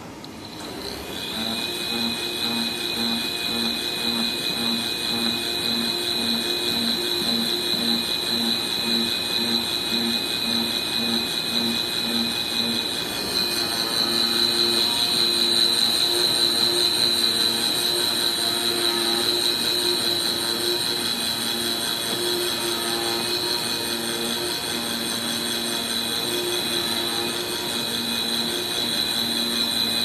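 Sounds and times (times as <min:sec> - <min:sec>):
cutting machine high whine: 0:00.0 - 0:30.0.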